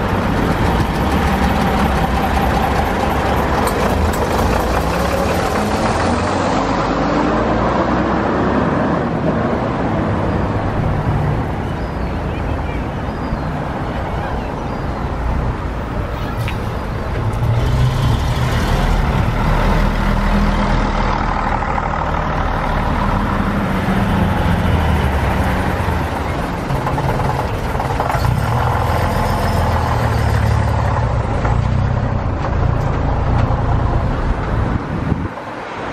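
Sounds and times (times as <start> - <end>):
bus diesel engines driving past: 0.0 - 35.9.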